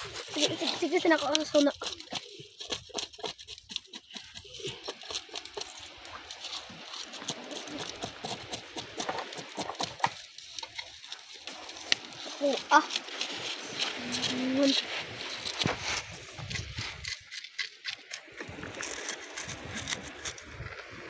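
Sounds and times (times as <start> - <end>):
knife scraping fish scales: 0.0 - 20.7.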